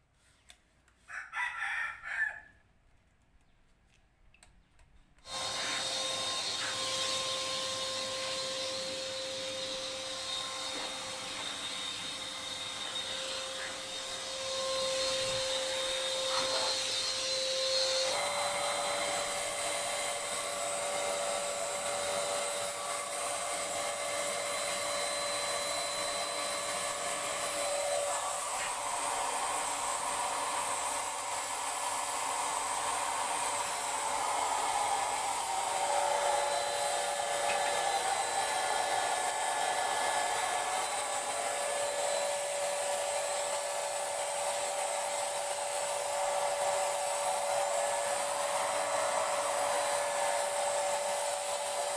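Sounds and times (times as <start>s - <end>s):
electric paint sprayer whining: 5.2s - 51.9s.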